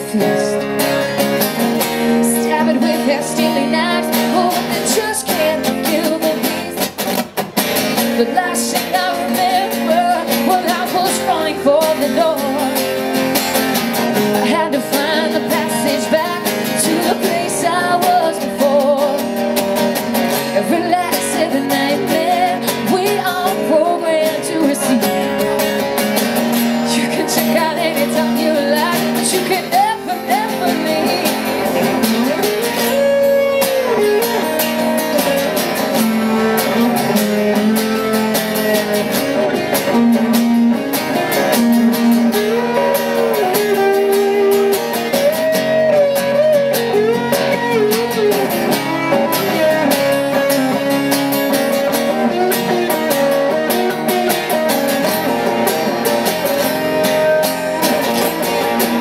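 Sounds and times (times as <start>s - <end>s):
two acoustic guitars playing: 0.0s - 59.0s.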